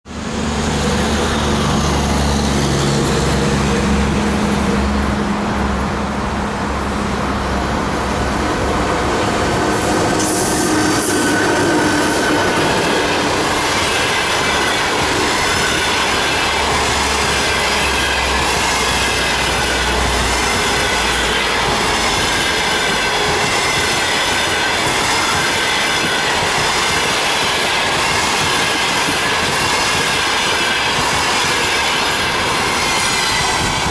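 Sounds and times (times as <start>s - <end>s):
train wheels on rails: 0.1s - 33.9s.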